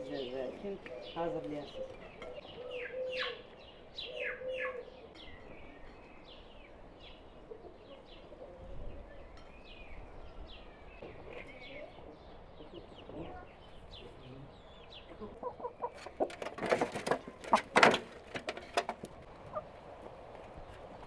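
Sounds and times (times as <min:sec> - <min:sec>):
small birds chirping: 0:00.0 - 0:17.7.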